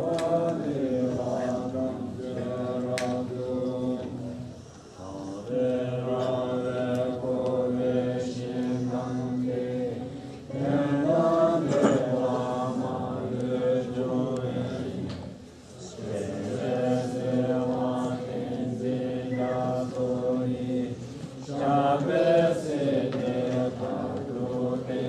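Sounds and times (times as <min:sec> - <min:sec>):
group chanting in unison: 0:00.0 - 0:25.0.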